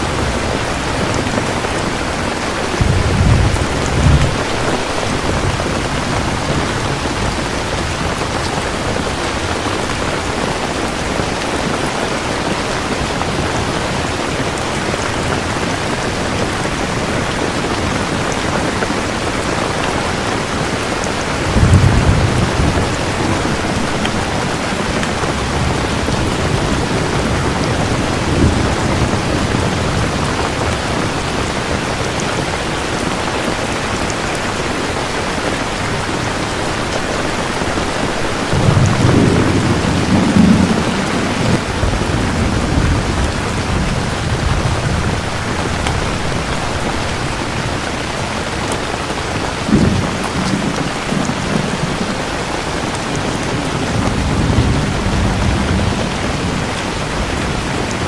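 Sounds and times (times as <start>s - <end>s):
low thunder rumbles: 0.0s - 33.7s, 35.0s - 48.7s, 49.5s - 58.0s
heavy rainfall: 0.0s - 58.0s.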